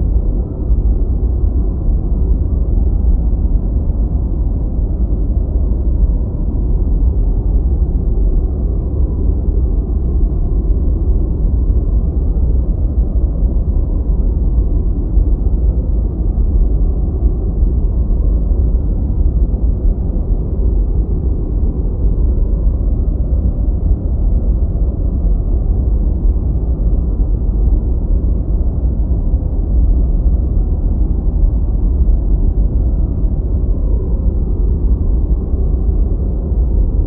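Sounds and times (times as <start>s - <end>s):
deep white noise rumble: 0.0s - 37.0s.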